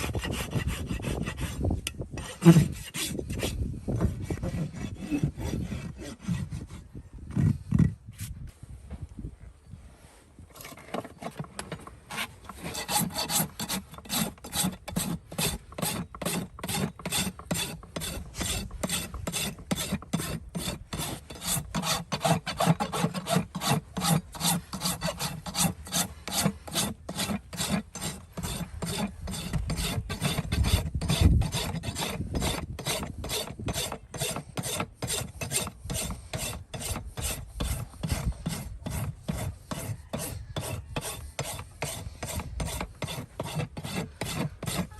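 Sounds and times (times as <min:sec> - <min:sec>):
hoof rasp filing: 0:00.0 - 0:07.9, 0:10.5 - 0:44.9.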